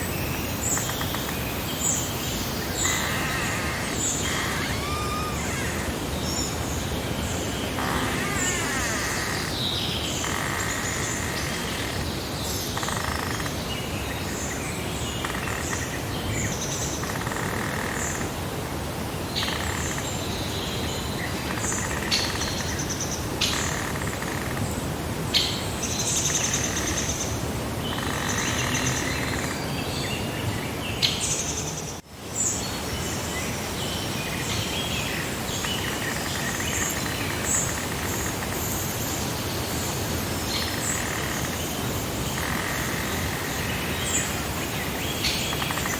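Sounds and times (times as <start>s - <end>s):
outdoor background hiss: 0.0s - 45.9s
songbirds chirping and trilling: 0.0s - 45.9s.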